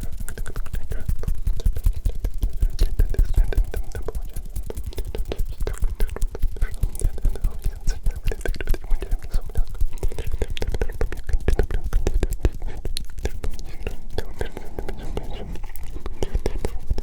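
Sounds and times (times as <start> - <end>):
hands rubbing and tapping microphone: 0.0 - 17.0
person whispering: 0.0 - 17.0.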